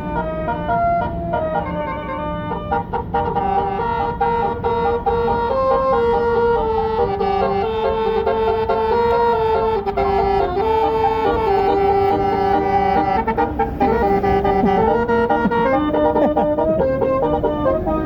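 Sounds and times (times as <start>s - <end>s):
musical bus horn melody: 0.0s - 18.0s.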